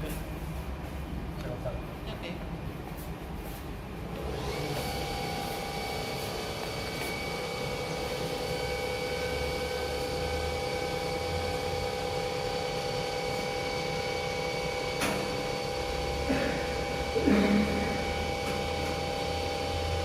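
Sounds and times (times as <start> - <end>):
milling machine hum and whine: 0.0 - 20.0.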